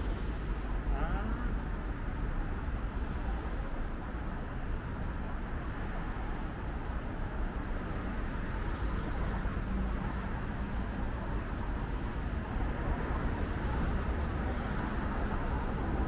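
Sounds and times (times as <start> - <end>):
city traffic cars passing: 0.0 - 16.0.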